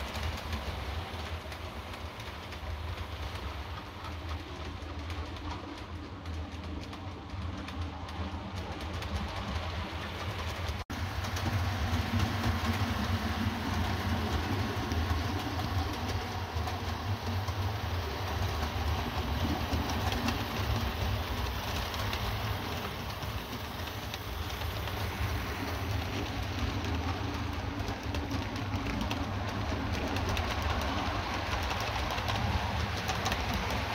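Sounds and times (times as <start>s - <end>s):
model train hum: 0.0s - 33.9s
wheels rattling on rails: 0.0s - 33.9s.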